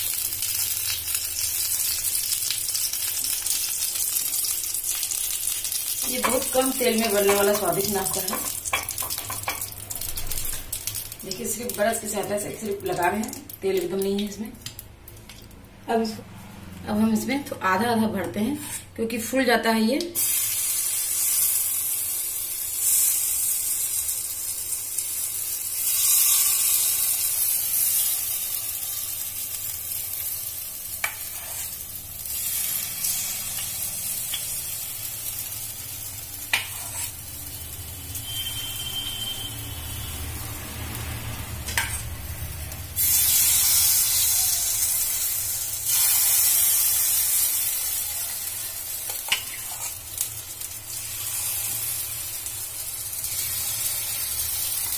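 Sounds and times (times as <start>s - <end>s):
batter sizzling in pan: 0.0s - 15.5s, 20.0s - 54.9s.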